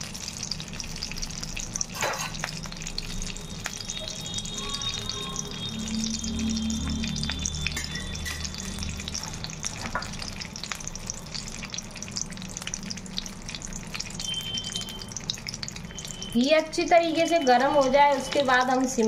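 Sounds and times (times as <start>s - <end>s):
ghee sizzling in metal pan: 0.0s - 19.0s.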